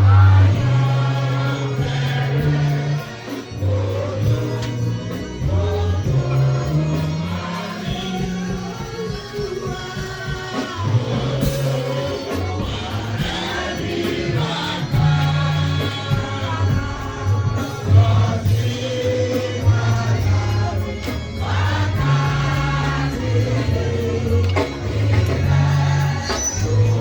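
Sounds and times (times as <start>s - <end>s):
bass line: 0.0s - 27.0s
choir singing over a band: 0.0s - 27.0s.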